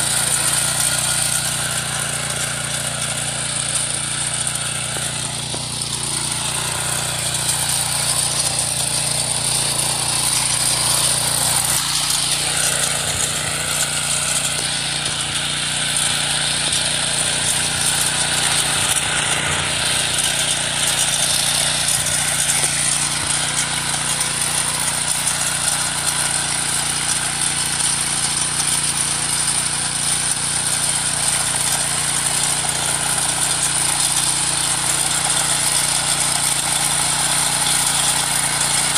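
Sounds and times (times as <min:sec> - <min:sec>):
power weeder engine running: 0:00.0 - 0:38.9
tines churning soil: 0:00.0 - 0:38.9.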